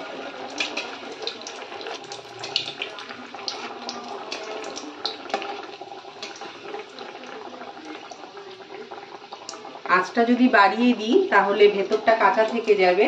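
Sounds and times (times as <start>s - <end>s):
fish deep-frying in oil: 0.0s - 13.0s.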